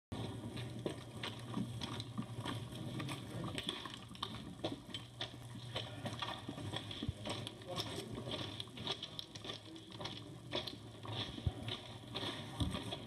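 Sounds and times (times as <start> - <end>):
steady low hum: 0.1 - 13.0
footsteps crunching on ballast: 0.2 - 13.0.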